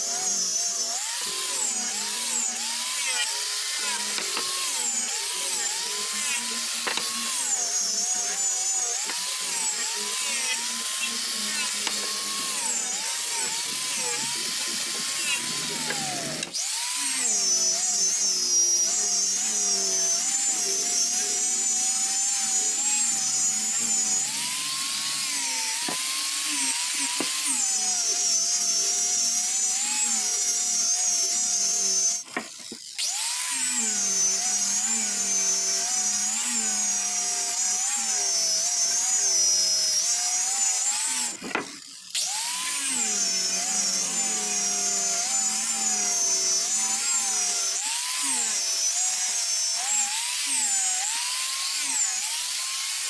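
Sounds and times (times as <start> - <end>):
angle grinder sanding wood: 0.0 - 53.0.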